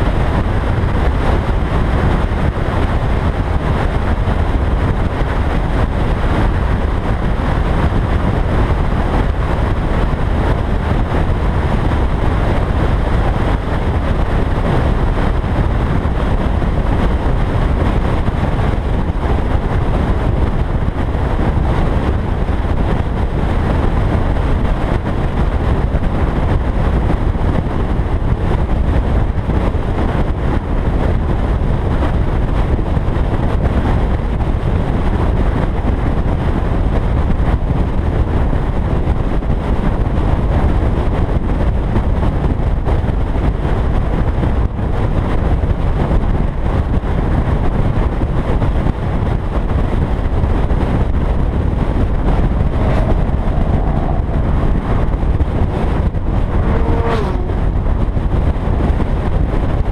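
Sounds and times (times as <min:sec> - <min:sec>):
car wind and road noise: 0:00.0 - 0:59.9.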